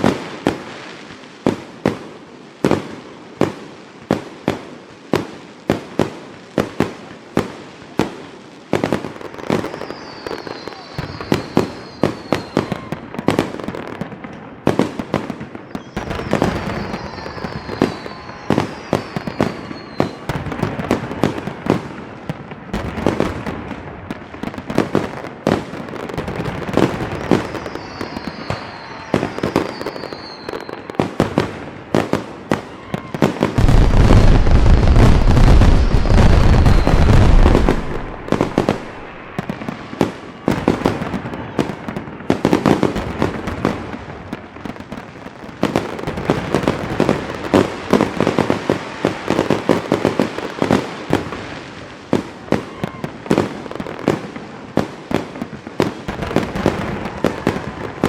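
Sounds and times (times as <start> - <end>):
fireworks bangs and crackles: 0.0 - 58.0
fireworks falling whistles: 0.0 - 58.0.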